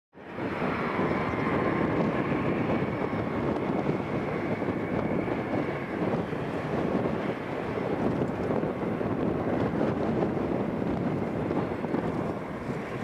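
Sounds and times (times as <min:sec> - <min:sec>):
engine and air rushing: 0:00.2 - 0:13.0
jet engine whine: 0:00.2 - 0:13.0.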